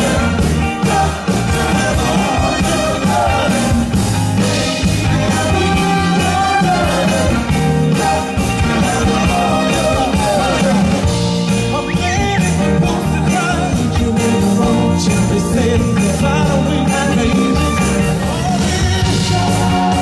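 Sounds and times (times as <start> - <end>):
bass line: 0.0 - 20.0
soul band playing: 0.0 - 20.0.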